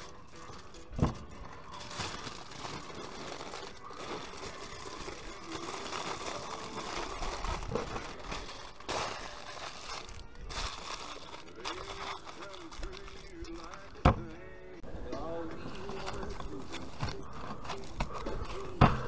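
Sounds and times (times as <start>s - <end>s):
aluminium foil crinkling: 0.0s - 14.1s, 15.5s - 19.0s.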